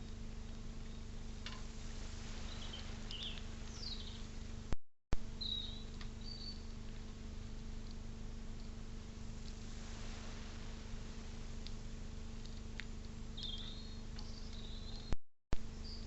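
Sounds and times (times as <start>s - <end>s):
birds chirping faintly: 0.0s - 7.3s, 8.6s - 16.0s
electrical hum: 0.0s - 16.0s.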